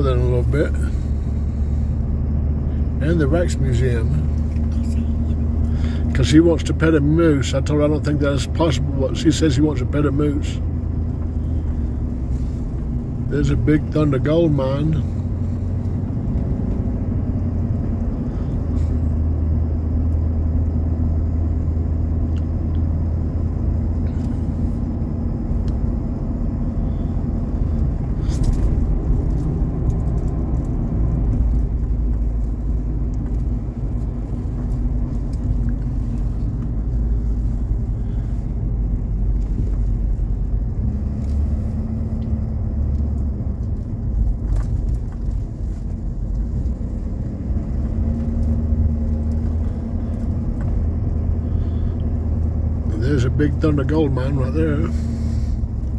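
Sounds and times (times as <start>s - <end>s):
vehicle engine and road noise: 0.0s - 55.9s.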